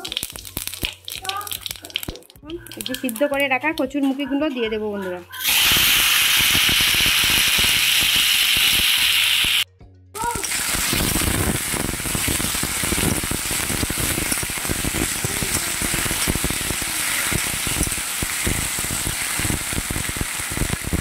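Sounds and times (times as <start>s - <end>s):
food sizzling in hot oil: 0.0s - 3.5s, 5.4s - 9.7s, 10.4s - 21.0s.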